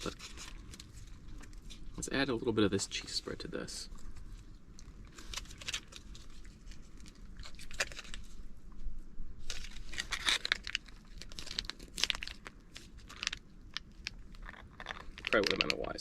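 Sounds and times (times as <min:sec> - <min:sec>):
packaging crinkling and rustling: 0:00.0 - 0:02.2, 0:03.9 - 0:08.6, 0:09.4 - 0:16.0.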